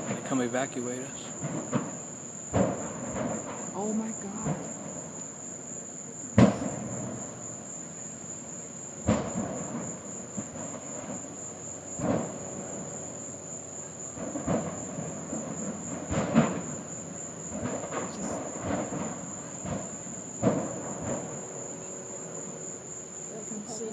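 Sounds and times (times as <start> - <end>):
propane tanks exploding: 0.0 - 22.6
insect chirping: 0.0 - 23.9.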